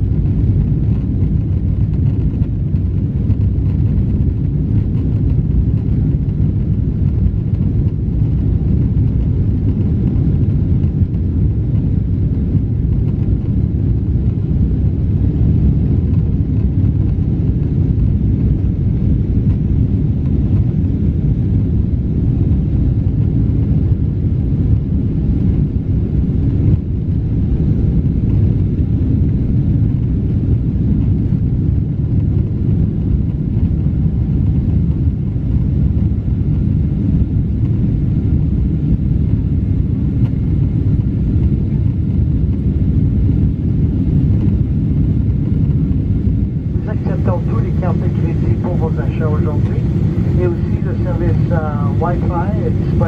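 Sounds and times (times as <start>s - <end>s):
low rumble inside aircraft cabin: 0.0s - 53.0s.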